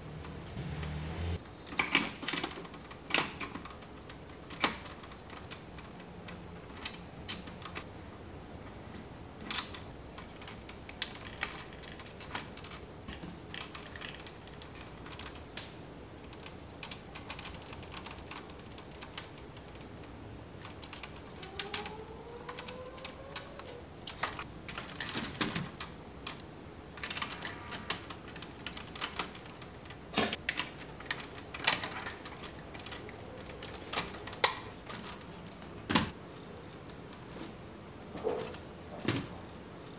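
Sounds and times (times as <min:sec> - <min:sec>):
plastic parts clicking together: 0:01.5 - 0:07.9, 0:08.9 - 0:37.2.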